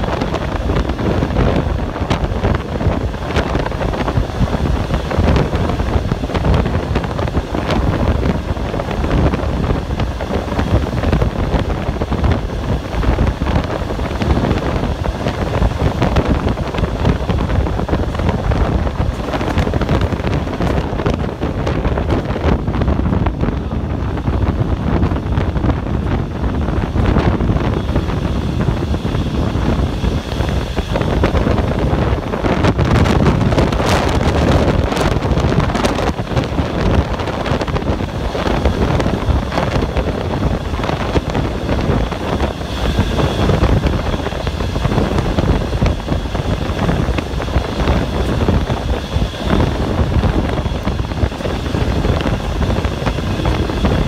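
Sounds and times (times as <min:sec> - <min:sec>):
rush of air: 0:00.0 - 0:54.0
train rumbling through tunnel: 0:00.0 - 0:54.0.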